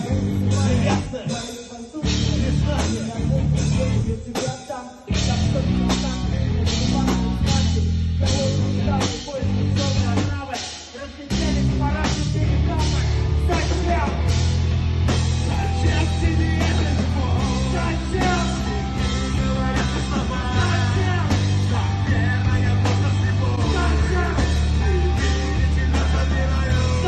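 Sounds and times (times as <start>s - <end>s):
person singing into a microphone: 0.0s - 14.3s, 15.4s - 27.0s
bass guitar: 0.0s - 27.0s
drum kit: 0.0s - 27.0s.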